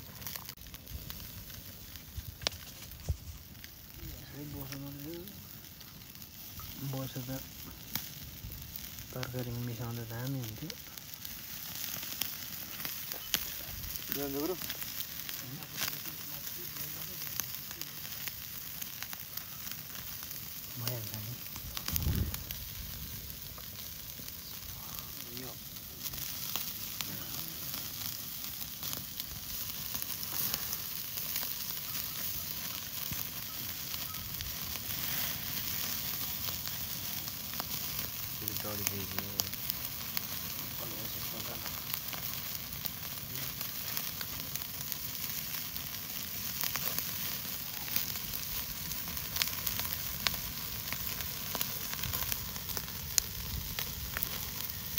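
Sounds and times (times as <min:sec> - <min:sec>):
chicken sizzling on a grill: 0:00.0 - 0:54.9
wood fire crackling: 0:00.0 - 0:54.9.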